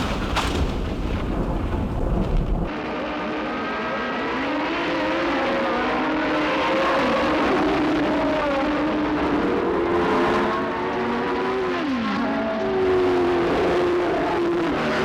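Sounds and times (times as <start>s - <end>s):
racing car engines revving: 1.9s - 15.0s.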